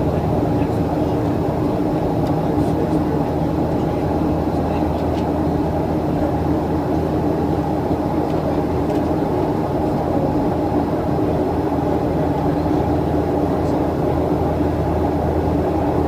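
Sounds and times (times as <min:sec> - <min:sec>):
airplane cabin engine hum: 0:00.0 - 0:16.0.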